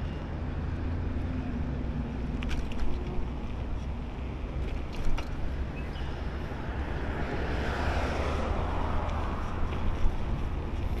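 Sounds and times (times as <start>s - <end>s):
road noise: 0.0s - 11.0s
wind rumbling on microphone: 2.1s - 11.0s.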